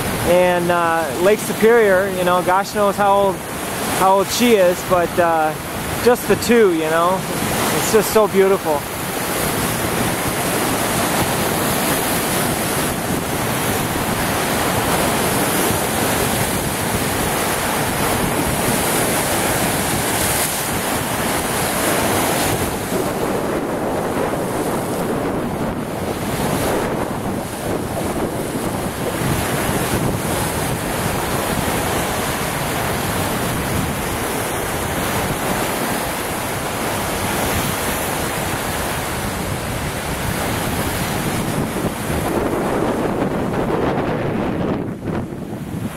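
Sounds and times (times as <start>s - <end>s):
waves breaking on rocks: 0.0s - 45.9s
wind buffeting microphone: 0.0s - 45.9s.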